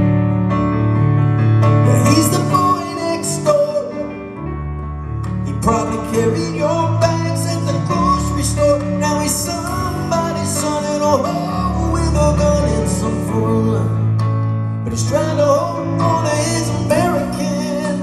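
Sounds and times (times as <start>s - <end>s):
bass: 0.0s - 18.0s.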